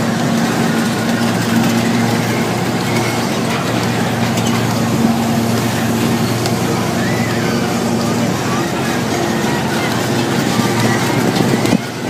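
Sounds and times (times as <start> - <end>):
motorcycle engines droning: 0.0 - 12.0.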